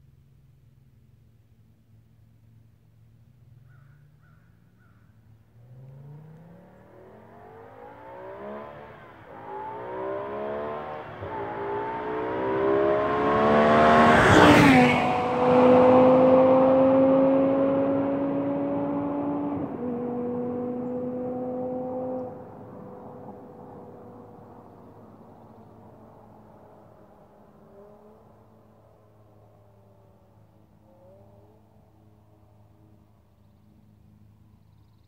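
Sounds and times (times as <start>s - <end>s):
car engine accelerating hard: 5.4s - 34.4s.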